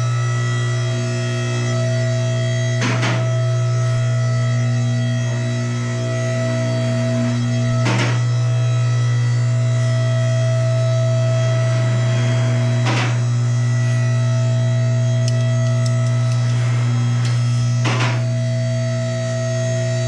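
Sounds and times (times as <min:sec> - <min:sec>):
loud electrical hum: 0:00.0 - 0:20.0.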